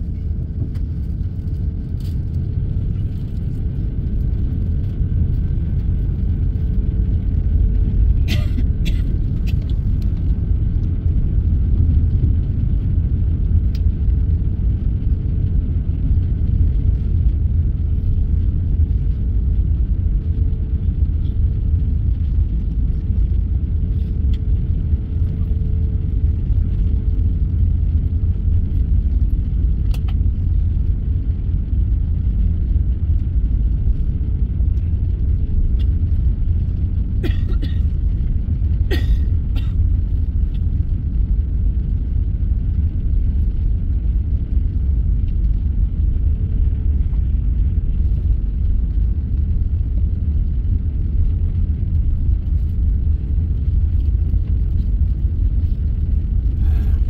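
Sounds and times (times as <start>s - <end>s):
aircraft engines idling rumble: 0.0s - 57.0s
faint steady hum: 0.0s - 57.0s.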